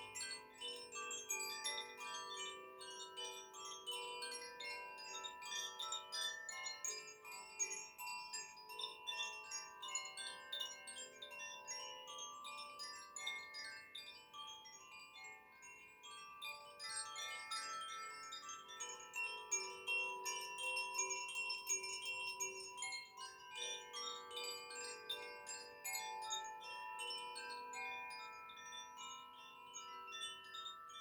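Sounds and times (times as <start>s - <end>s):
wind chimes tinkling: 0.0s - 31.0s.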